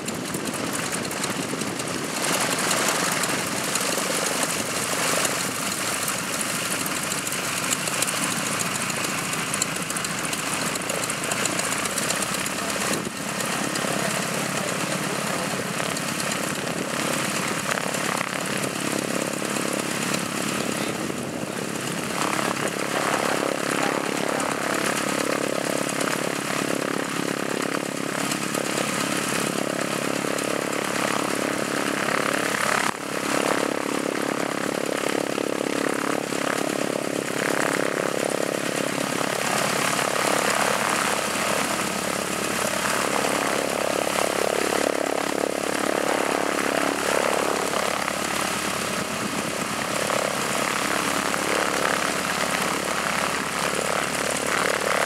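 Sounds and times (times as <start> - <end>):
radial aircraft engine idling: 0.0 - 55.0.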